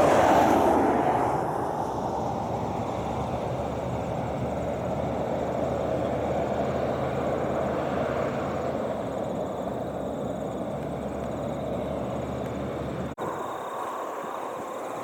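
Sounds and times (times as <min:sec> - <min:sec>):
truck diesel engine: 0:00.0 - 0:15.0.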